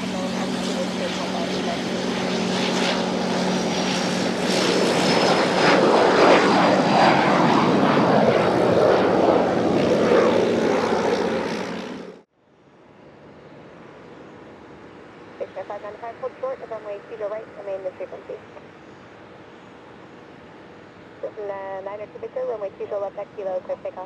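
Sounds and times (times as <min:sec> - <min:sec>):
jet engines roaring with whine: 0:00.0 - 0:24.0.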